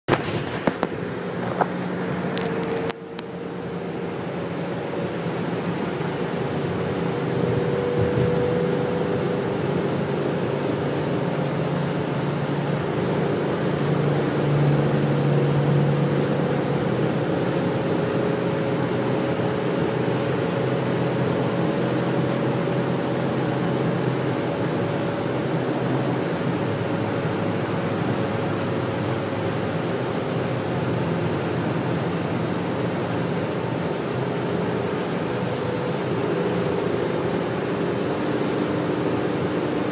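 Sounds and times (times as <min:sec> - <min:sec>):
road noise: 0:00.0 - 0:39.9
bus engine drone: 0:00.1 - 0:39.9.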